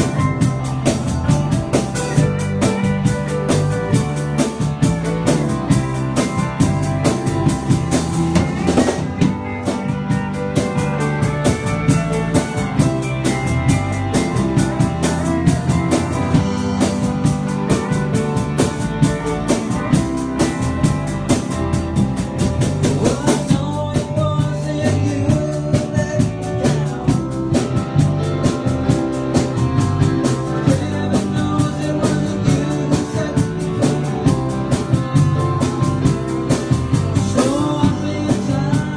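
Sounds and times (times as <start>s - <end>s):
drum kit steady beat: 0.0s - 38.9s
live band playing: 0.0s - 38.9s.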